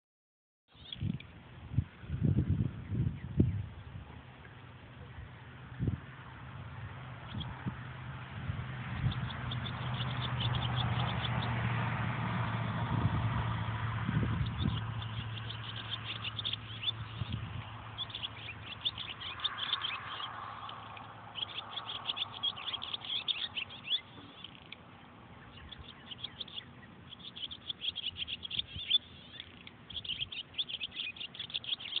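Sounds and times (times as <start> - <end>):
birds chirping rapidly: 0.7 - 1.2, 5.0 - 32.0.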